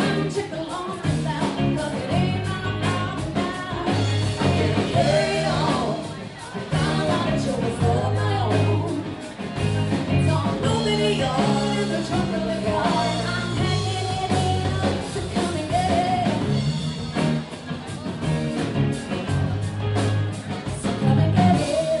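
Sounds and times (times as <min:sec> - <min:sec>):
woman singing: 0:00.0 - 0:16.7, 0:20.8 - 0:22.0
rock band playing: 0:00.0 - 0:22.0.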